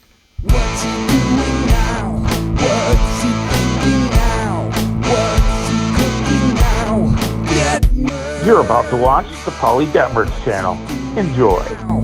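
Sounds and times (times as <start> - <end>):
rock music with guitar and drums: 0.4 - 12.0.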